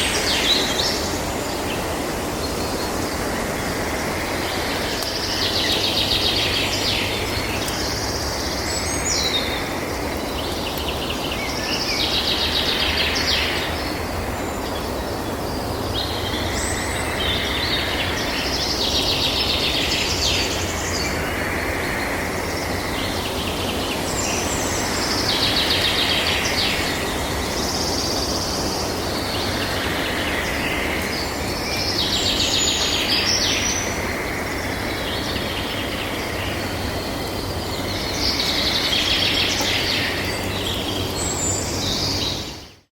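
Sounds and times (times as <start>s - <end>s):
birds trilling: 0.0s - 42.8s
steady background hiss: 0.0s - 42.9s.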